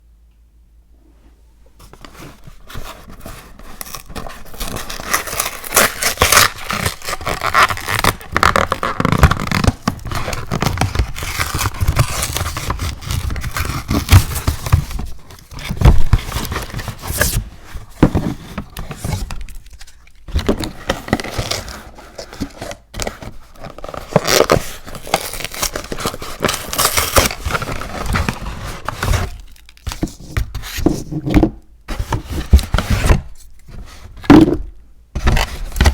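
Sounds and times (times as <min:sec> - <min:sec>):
handling noise scraping and crinkling: 0:01.1 - 0:35.9.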